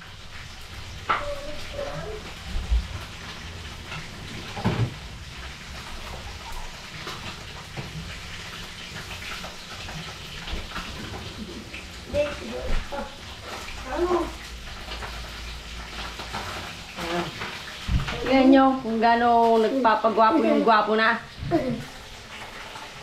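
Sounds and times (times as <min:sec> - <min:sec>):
oil sizzling with frying fish: 0:00.0 - 0:23.0.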